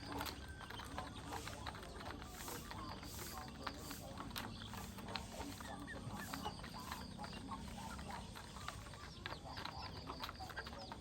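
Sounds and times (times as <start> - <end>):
beaks pecking at feed: 0.0 - 11.0
chickens clucking and chirping: 0.0 - 11.0.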